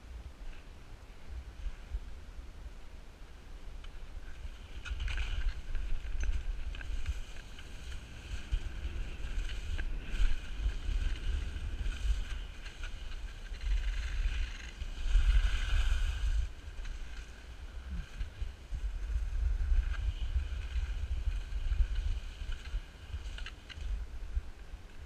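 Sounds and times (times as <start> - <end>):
skis sliding over snow: 3.8 - 25.0
wind buffeting microphone: 4.3 - 25.0.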